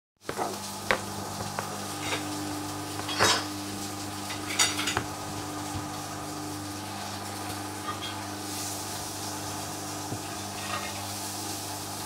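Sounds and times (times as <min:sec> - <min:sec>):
washing machine motor hum: 0:00.2 - 0:12.0.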